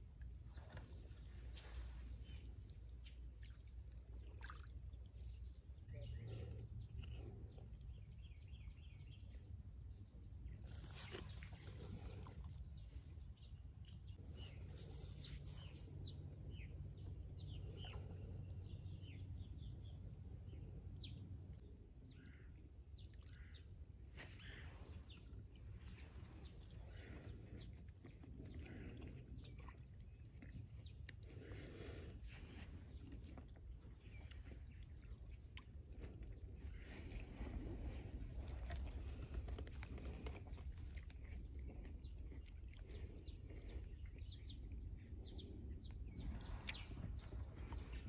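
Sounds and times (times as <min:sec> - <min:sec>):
low steady rumble: 0:00.0 - 0:48.0.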